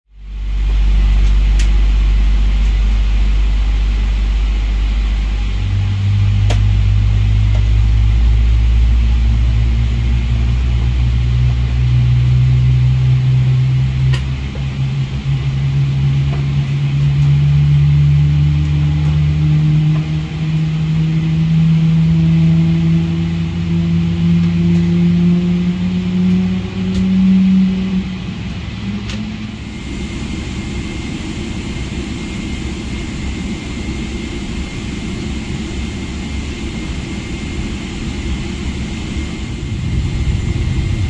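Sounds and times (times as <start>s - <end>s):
aircraft cabin drone: 0.1s - 41.0s
low tone rising in pitch: 0.2s - 41.0s.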